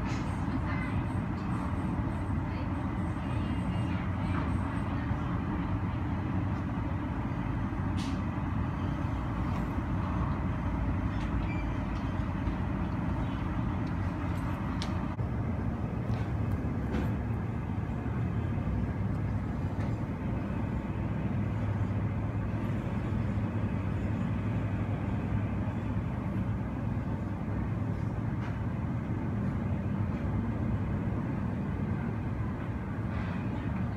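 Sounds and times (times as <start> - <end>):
muffled aircraft rumble: 0.0 - 33.9.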